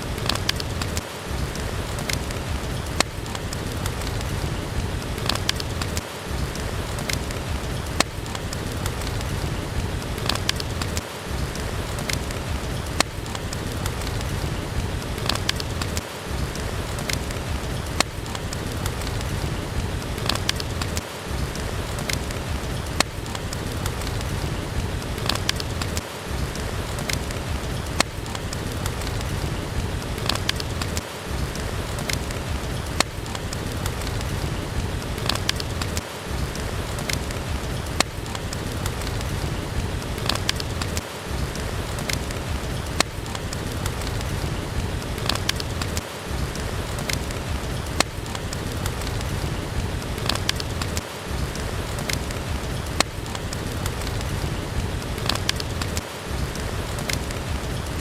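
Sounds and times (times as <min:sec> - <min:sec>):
rain falling: 0:00.0 - 0:58.0
wood fire crackling: 0:00.0 - 0:58.0.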